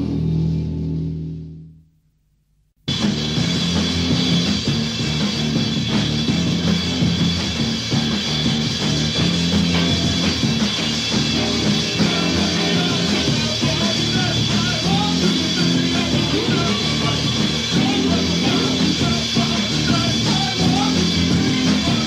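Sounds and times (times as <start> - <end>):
repeating bass line: 2.9 - 22.0
rock band music: 2.9 - 22.0.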